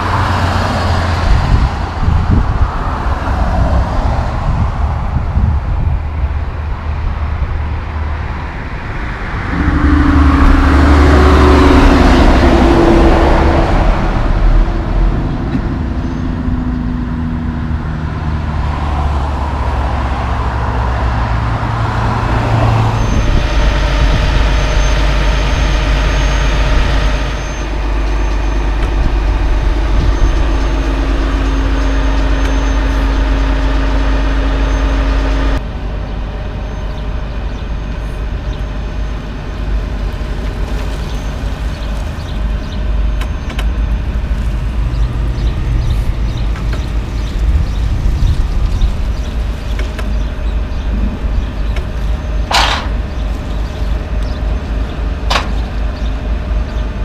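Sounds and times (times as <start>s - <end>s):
diesel truck engine idling: 0.0s - 57.0s
highway traffic passing: 0.0s - 57.0s
truck diesel engine passing: 0.0s - 57.0s.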